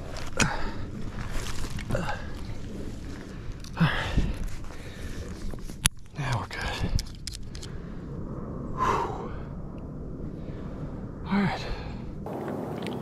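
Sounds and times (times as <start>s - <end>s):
low outdoor background: 0.0s - 13.0s.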